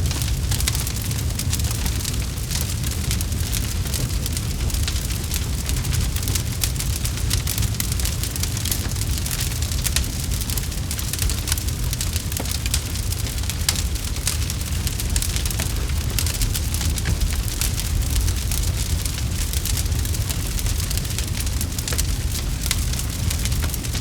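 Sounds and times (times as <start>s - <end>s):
campfire crackling and popping: 0.0s - 24.0s
low rumble of flame: 0.0s - 24.0s.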